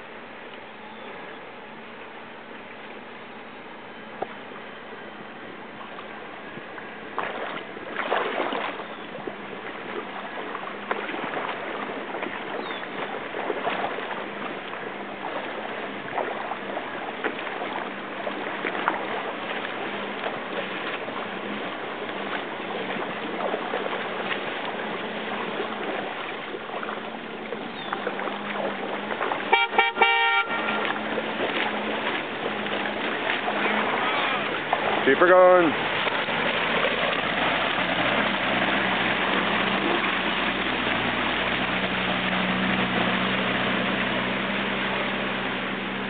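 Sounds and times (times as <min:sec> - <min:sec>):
water sloshing and splashing: 0:00.0 - 0:46.0.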